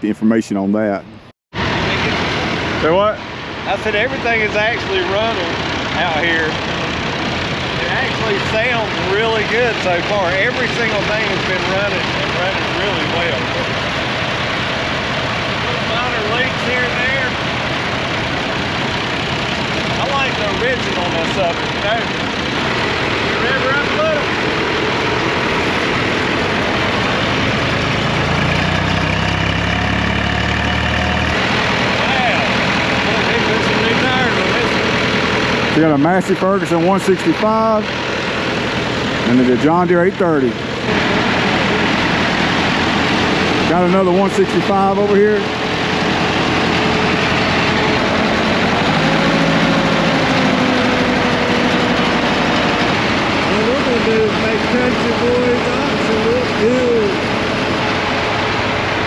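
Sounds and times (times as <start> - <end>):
deep engine drone: 0.0 - 59.0
tractor engine idling: 1.6 - 59.0.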